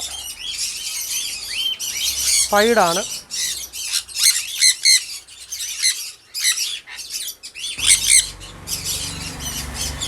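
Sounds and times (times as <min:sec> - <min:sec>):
parrots chirping and squawking: 0:00.0 - 0:10.0.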